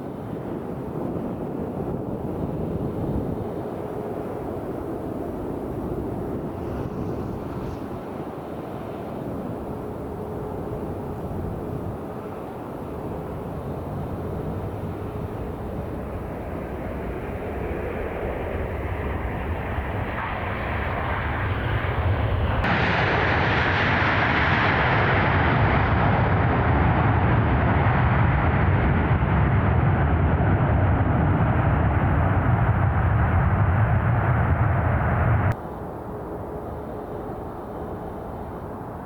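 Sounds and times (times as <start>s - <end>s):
jet engines rumbling: 0.0s - 39.0s.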